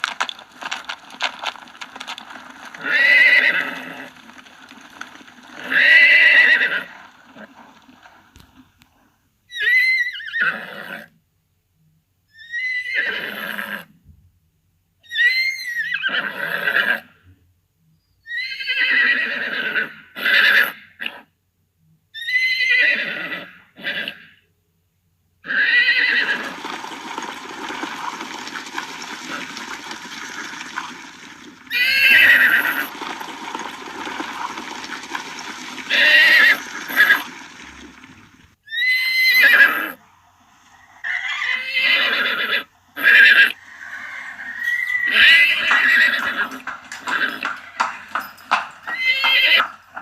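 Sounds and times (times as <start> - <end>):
horse whinnying: 0.0 - 8.6, 9.5 - 11.1, 12.3 - 13.9, 15.0 - 17.2, 18.2 - 21.2, 22.2 - 24.4, 25.4 - 38.0, 38.6 - 40.0, 41.0 - 50.0.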